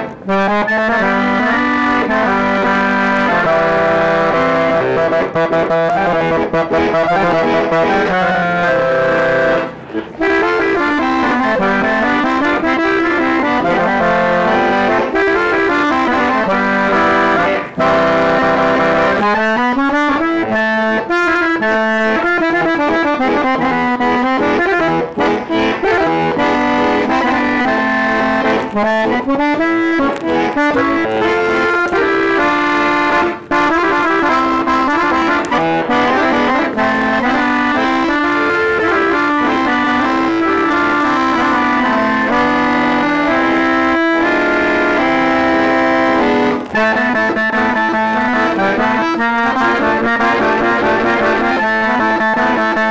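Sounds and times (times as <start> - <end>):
button accordion playing: 0.0 - 52.9.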